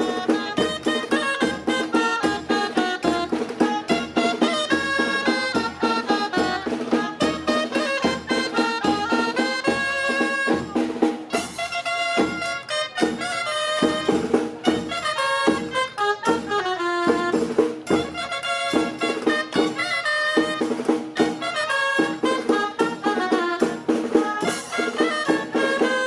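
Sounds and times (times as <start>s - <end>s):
steady drum beat: 0.0s - 26.0s
wind instrument playing fast melody: 0.0s - 26.0s.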